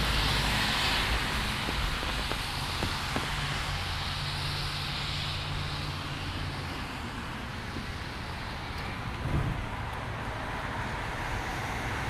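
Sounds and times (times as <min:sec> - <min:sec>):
tyre hiss on wet street: 0:00.0 - 0:12.0.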